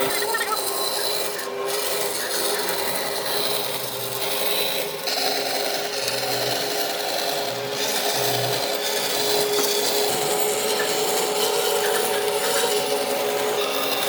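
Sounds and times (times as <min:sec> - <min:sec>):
power tool sanding wood: 0:00.0 - 0:14.0.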